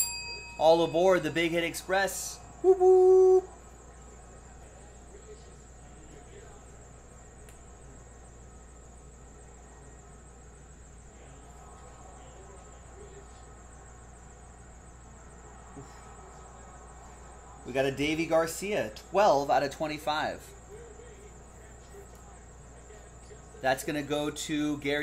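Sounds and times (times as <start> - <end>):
faint high whine: 0.0 - 25.0
low electrical hum: 0.0 - 25.0.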